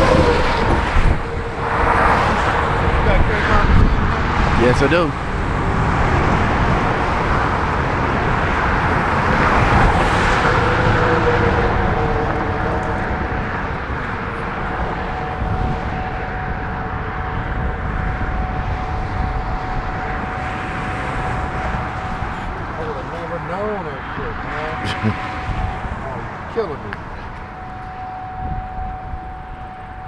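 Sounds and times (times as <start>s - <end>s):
highway traffic passing: 0.0s - 30.0s
steady engine hum: 0.0s - 30.0s.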